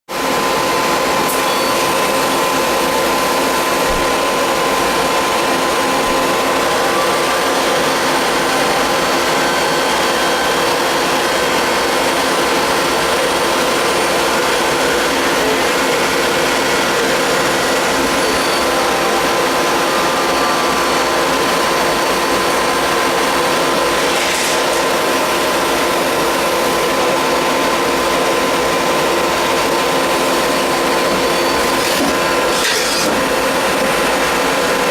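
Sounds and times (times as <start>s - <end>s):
lathe machining metal: 0.1s - 34.9s.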